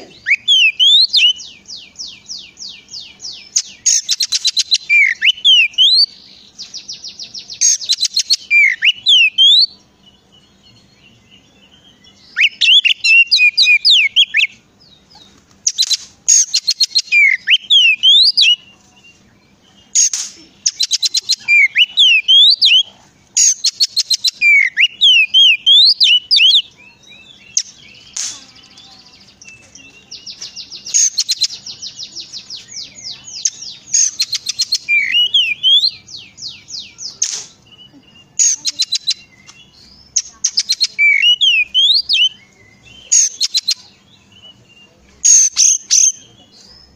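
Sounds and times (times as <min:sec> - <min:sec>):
bird singing loudly: 0:00.0 - 0:18.7, 0:19.4 - 0:46.9.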